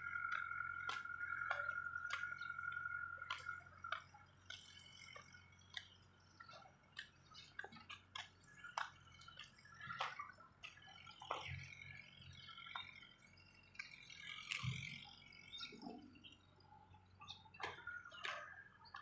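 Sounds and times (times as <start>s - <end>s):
faint low hum: 0.0s - 19.0s
frogs clicking calls: 0.0s - 19.0s
frogs trilling: 0.0s - 19.0s.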